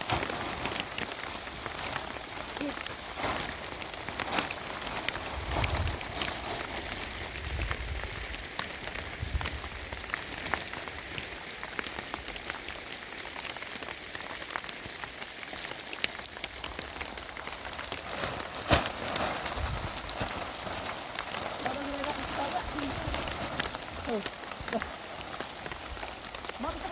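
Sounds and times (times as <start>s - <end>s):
heavy rain falling: 0.0s - 26.9s
raindrop hits: 0.0s - 26.9s.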